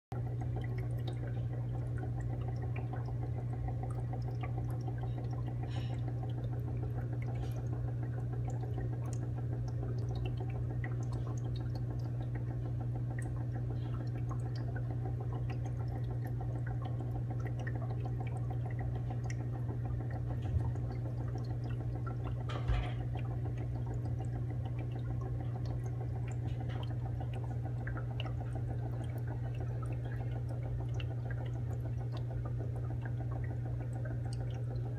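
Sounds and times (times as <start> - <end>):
aquarium pump humming: 0.1 - 34.9
water trickling and bubbling: 0.1 - 34.9.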